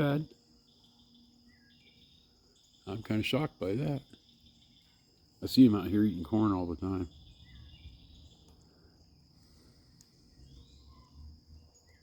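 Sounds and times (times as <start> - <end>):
faint bird chirps: 0.0 - 12.0
insects trilling: 0.0 - 12.0.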